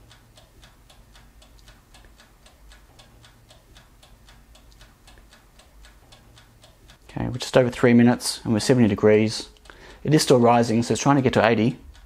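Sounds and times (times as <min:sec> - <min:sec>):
clockwork timer ticking: 0:00.0 - 0:12.0
low steady hum: 0:00.0 - 0:12.0.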